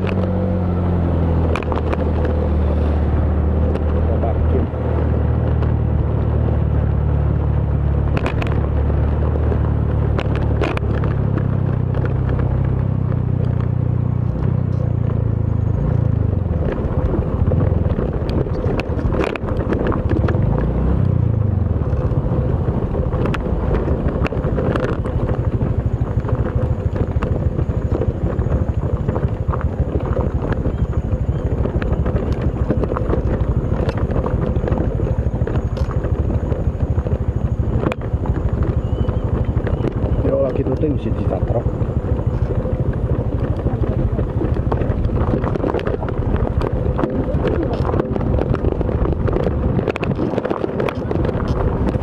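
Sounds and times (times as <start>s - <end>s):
motorcycle engine running: 0.0s - 52.0s
wind rushing over microphone: 0.0s - 52.0s.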